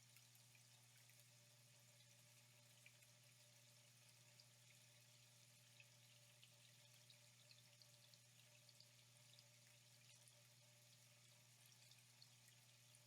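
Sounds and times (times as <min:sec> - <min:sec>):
faint flowing water: 0:00.0 - 0:13.0.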